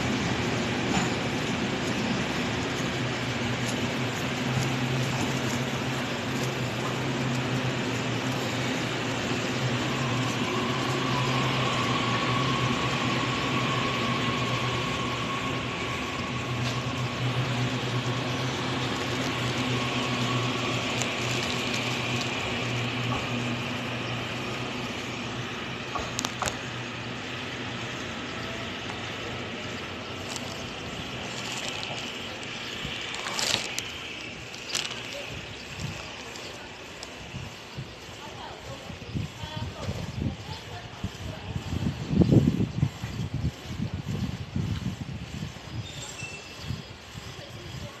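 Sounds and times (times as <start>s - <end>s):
low drone of train machinery: 0.0s - 48.0s.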